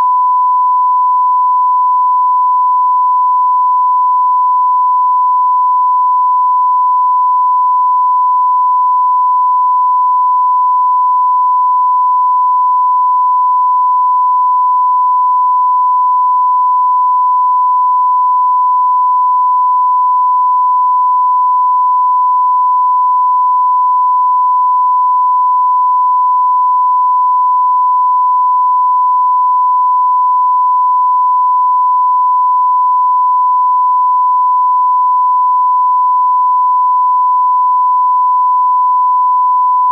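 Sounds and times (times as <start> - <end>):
high steady sine test tone: 0.0 - 39.9.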